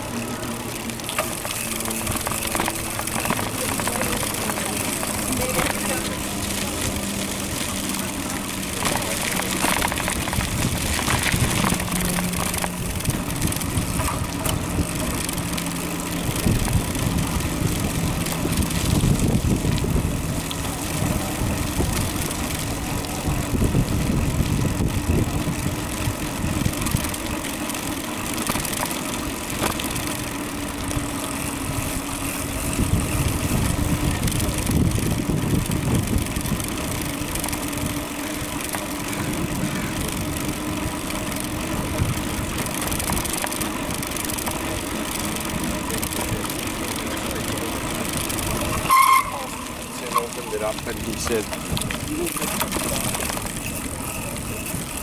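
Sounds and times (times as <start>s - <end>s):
traffic engine hum: 0.0s - 55.0s
wind and road noise: 0.0s - 55.0s.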